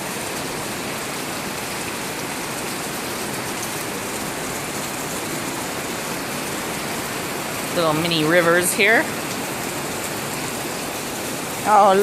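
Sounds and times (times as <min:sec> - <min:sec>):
heavy rain pouring: 0:00.0 - 0:12.0
water overflowing gutters: 0:00.0 - 0:12.0.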